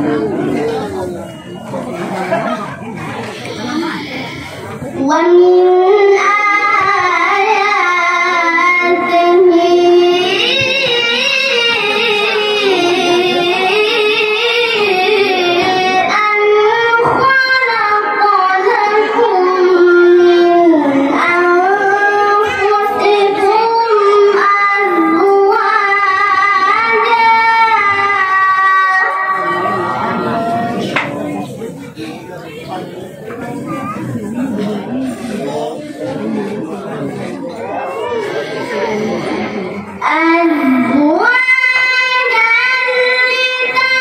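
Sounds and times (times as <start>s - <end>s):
boy reciting melodically into microphone: 0.0s - 44.0s.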